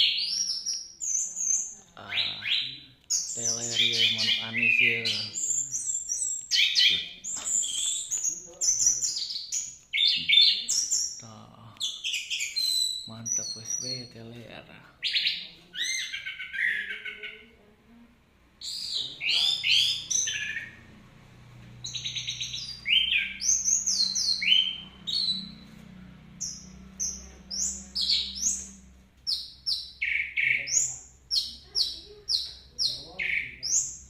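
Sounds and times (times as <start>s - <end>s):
bird singing whistled phrases: 0.0s - 11.2s, 11.8s - 14.1s, 15.0s - 17.4s, 18.6s - 20.8s, 21.8s - 25.6s, 26.4s - 28.7s, 29.3s - 34.0s.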